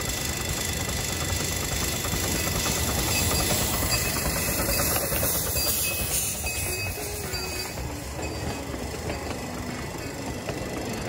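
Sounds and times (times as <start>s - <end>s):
miniature steam train running: 0.0s - 11.0s.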